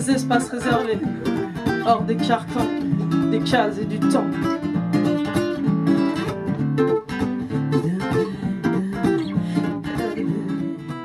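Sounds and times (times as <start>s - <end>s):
acoustic guitar: 0.0s - 11.0s.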